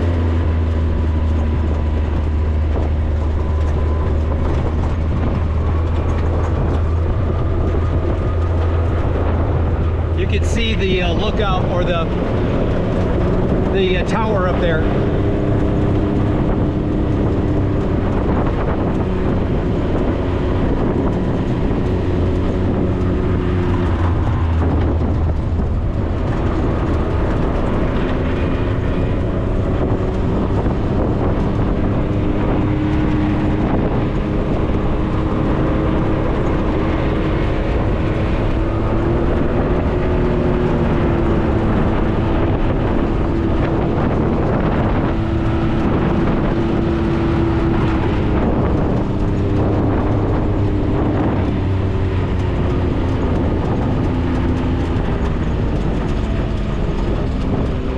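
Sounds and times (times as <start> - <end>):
road noise: 0.0 - 57.9
vehicle engine drone: 0.0 - 57.9.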